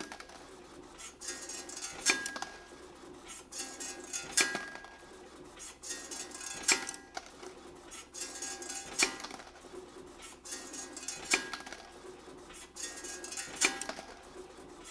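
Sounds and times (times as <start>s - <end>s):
continuous metallic clatter: 0.0s - 14.9s.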